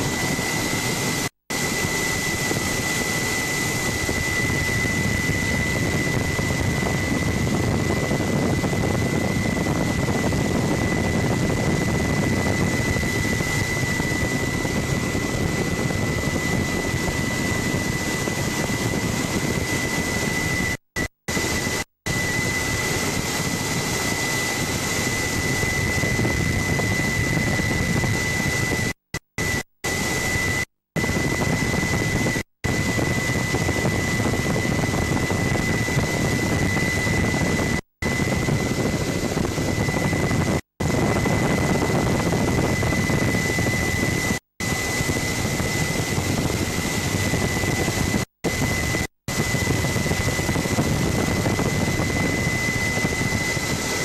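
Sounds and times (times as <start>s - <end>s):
helicopter engine and rotor roar: 0.0s - 54.0s
high-pitched whine: 0.0s - 54.0s.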